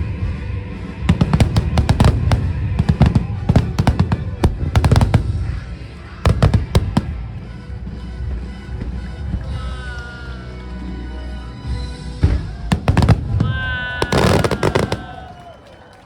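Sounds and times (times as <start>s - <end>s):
fireworks bangs and cracks: 0.0s - 9.6s, 12.1s - 16.0s
music soundtrack: 0.0s - 15.6s.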